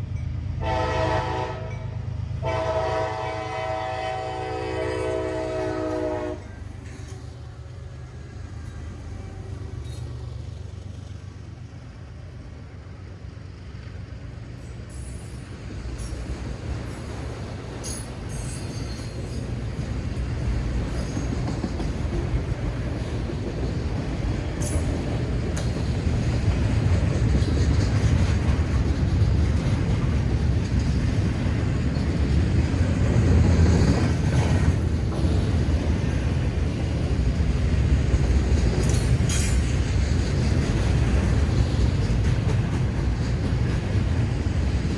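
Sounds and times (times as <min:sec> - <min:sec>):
freight train rumbling: 0:00.0 - 0:44.9.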